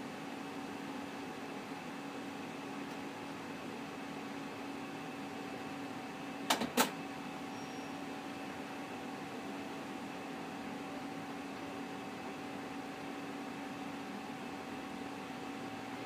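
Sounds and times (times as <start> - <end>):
printer motors and fan humming: 0.0 - 16.0.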